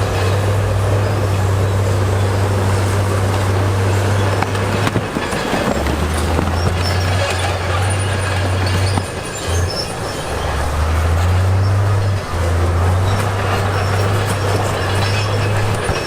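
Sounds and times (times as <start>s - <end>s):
heavy diesel engine running: 0.0s - 16.0s
metallic squealing and clatter: 0.0s - 16.0s.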